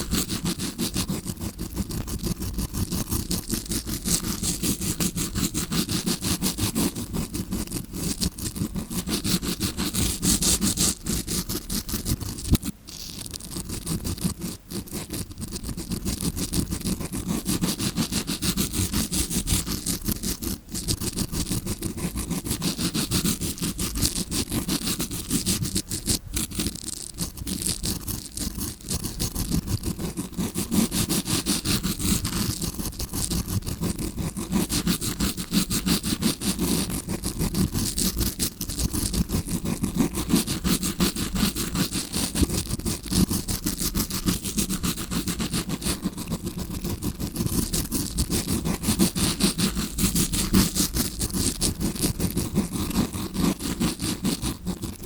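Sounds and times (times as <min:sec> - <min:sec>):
brush scratching on microphone: 0:00.0 - 0:55.0.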